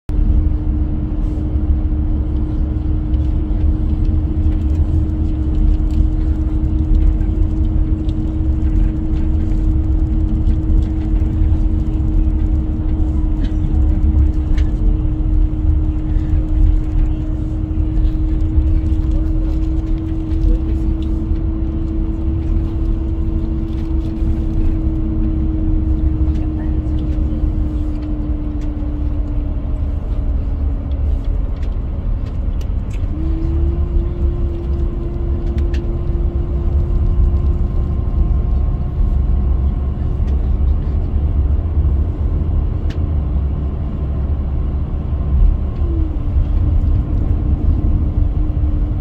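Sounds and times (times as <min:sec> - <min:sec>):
droning hum: 0:00.1 - 0:49.0
vehicle cabin rumble: 0:00.1 - 0:49.0.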